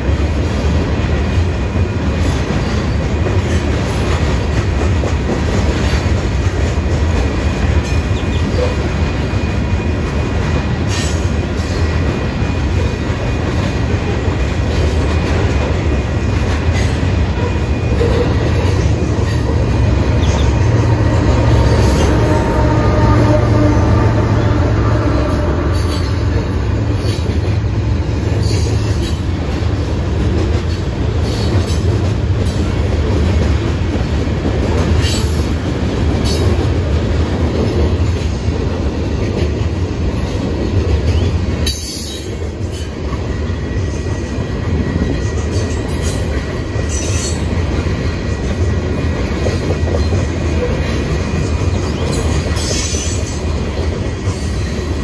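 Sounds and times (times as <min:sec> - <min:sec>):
clickety-clack over rail joints: 0:00.0 - 0:55.0
steel wheels rumbling on rail: 0:00.0 - 0:55.0.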